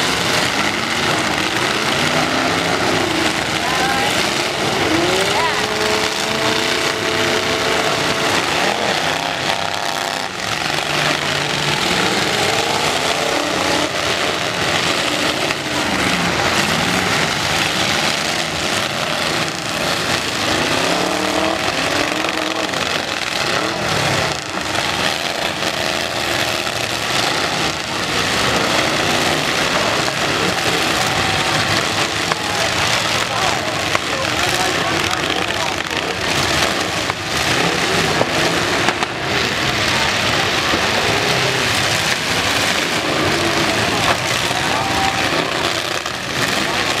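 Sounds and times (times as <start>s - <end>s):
truck engines revving: 0.0s - 47.0s.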